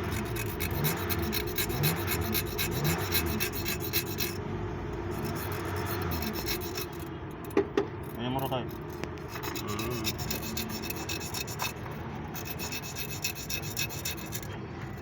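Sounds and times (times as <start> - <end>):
rhythmic hand filing strokes: 0.0 - 4.4, 5.1 - 7.1, 8.0 - 15.0
steady low hum: 0.0 - 15.0.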